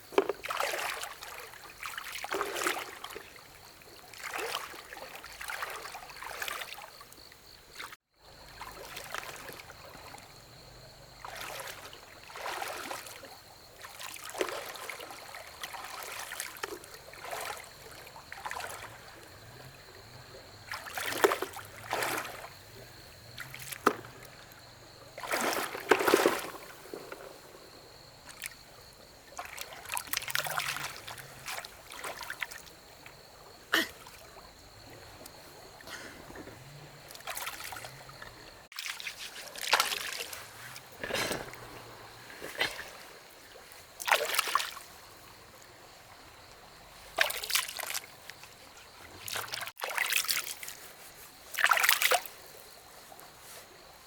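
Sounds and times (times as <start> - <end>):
water splashing and trickling: 0.0 - 54.0.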